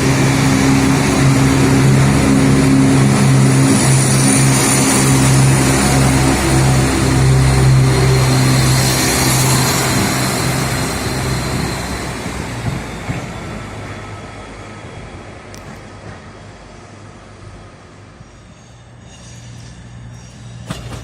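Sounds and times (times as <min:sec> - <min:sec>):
train humming: 0:00.0 - 0:21.0.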